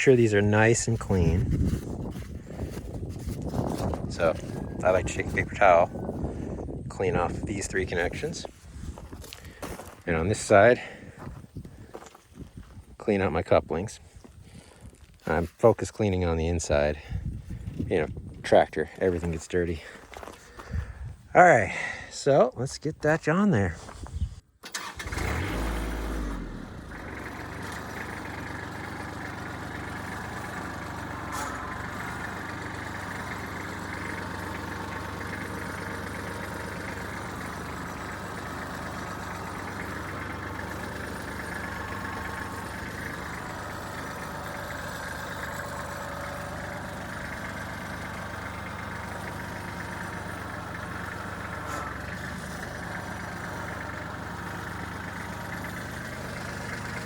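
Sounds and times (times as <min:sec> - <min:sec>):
tractor diesel engine idling: 0:00.0 - 0:14.3, 0:24.6 - 0:57.0.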